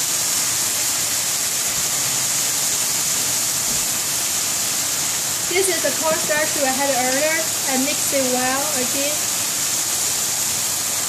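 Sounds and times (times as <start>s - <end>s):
cabbage sizzling in skillet: 0.0s - 11.0s.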